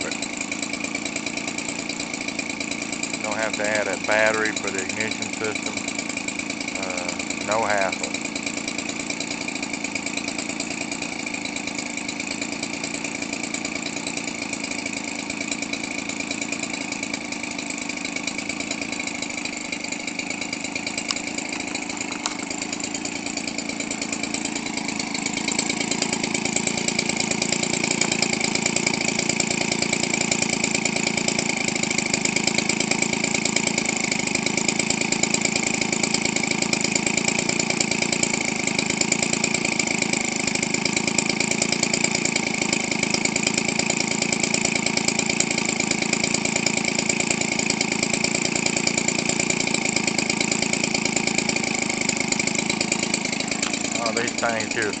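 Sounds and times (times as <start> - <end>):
two-stroke engine idling: 0.0 - 55.0.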